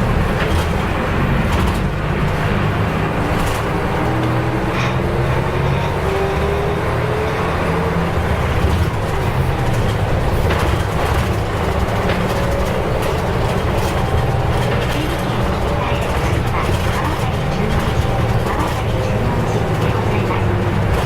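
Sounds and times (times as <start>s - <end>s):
bus diesel engine whining: 0.0s - 21.0s.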